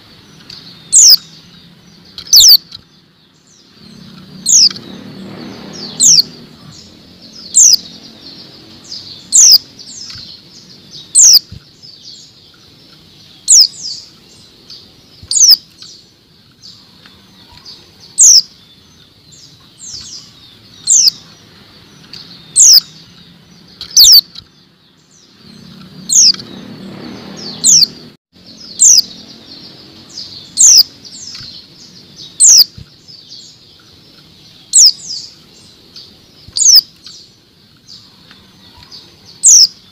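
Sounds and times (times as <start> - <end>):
bird high sharp chirps: 0.0 - 39.9.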